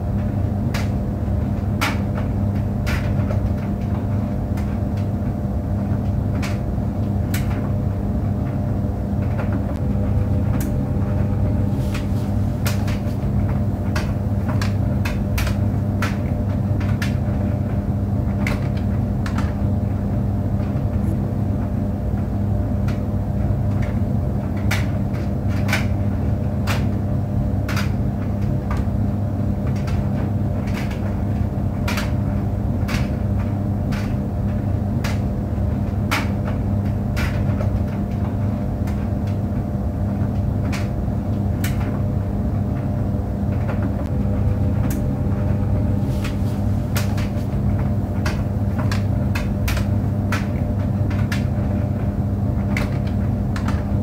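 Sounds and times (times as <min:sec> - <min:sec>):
clothes dryer motor hum and rumble: 0:00.0 - 0:54.0
fasteners clicking against dryer drum: 0:00.0 - 0:54.0.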